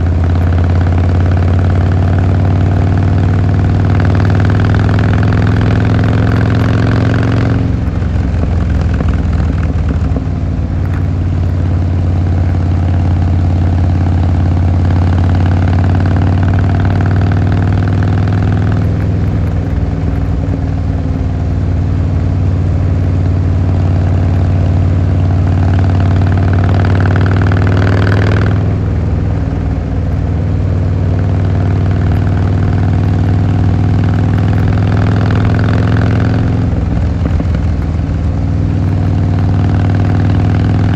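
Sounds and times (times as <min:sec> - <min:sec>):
motorcycle engine and exhaust: 0:00.0 - 0:40.9.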